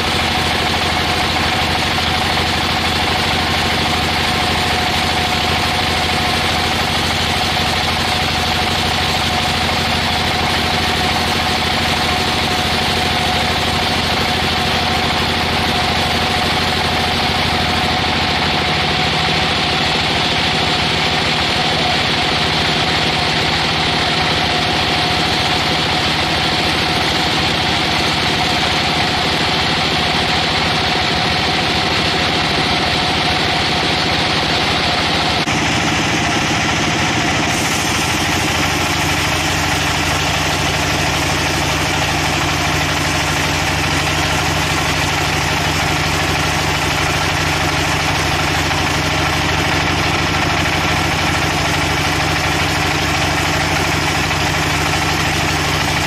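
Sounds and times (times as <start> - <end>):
sawmill machinery hum: 0.0 - 56.0.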